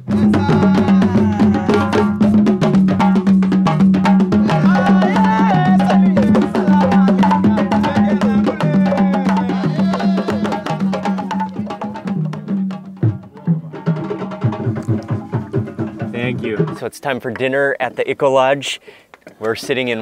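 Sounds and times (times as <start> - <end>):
fast hand drum strokes: 0.0 - 17.2.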